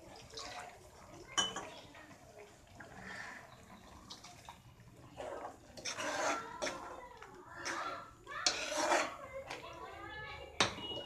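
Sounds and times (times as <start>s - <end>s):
ladle scraping and sloshing in pan: 0.0s - 10.0s.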